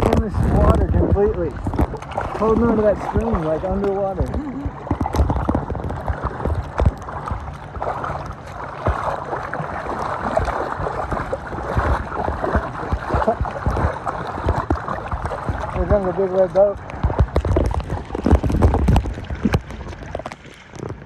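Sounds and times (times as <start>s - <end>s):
low bumps and knocks: 0.0s - 7.9s, 10.4s - 21.0s
water sloshing and splashing: 0.0s - 21.0s.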